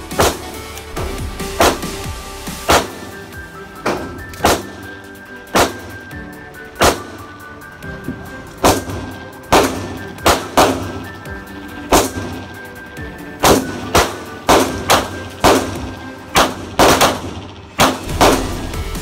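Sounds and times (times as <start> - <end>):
pistol shots echoing: 0.1 - 7.6, 8.5 - 18.7.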